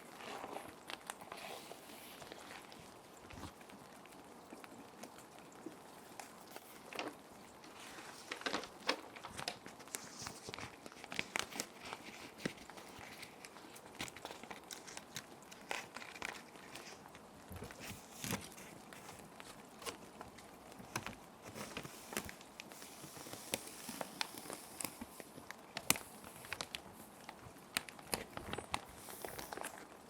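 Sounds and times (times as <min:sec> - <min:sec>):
background rain hiss: 0:00.0 - 0:30.0
plastic sheets crinkling: 0:00.0 - 0:30.0.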